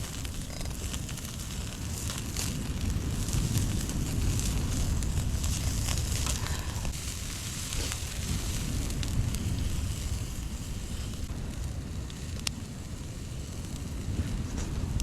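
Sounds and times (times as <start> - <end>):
campfire crackling: 0.0 - 15.0
wind rumble on microphone: 0.0 - 15.0.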